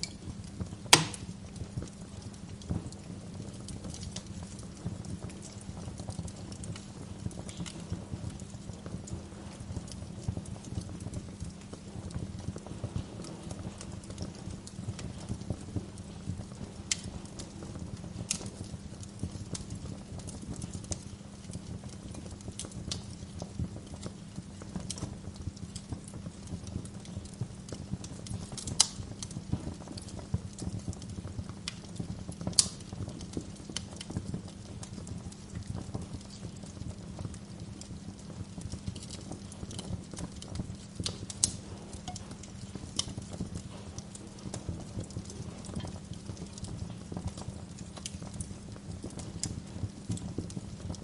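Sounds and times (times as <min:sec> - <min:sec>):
sharp fire pops: 0:00.0 - 0:51.0
wood fire crackling: 0:00.0 - 0:51.0.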